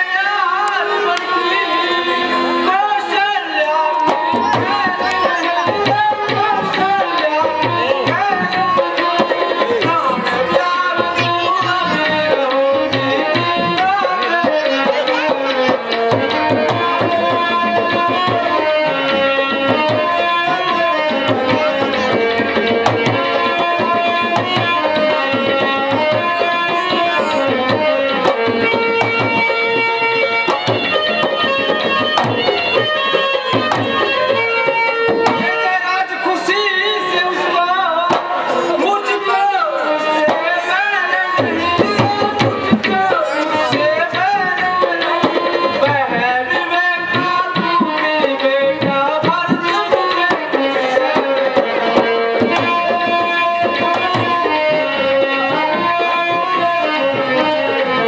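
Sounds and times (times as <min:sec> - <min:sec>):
tabla drumming: 0:00.0 - 0:58.0.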